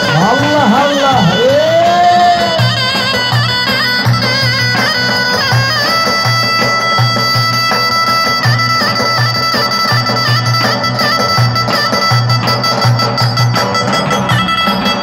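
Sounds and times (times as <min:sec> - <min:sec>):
shrill reed pipe melody: 0:00.0 - 0:15.0.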